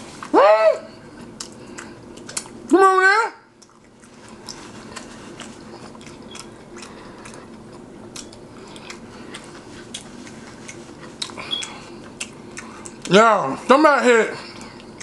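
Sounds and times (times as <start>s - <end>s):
person chewing food: 0.0s - 2.7s, 3.5s - 13.5s, 14.4s - 15.0s.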